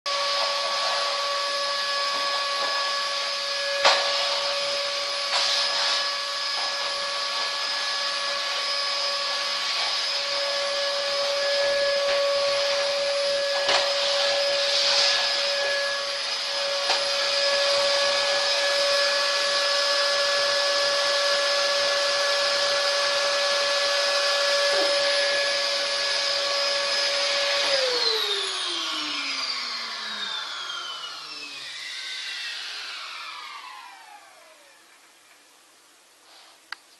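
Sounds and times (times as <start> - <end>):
vacuum cleaner running: 0.1 - 36.5.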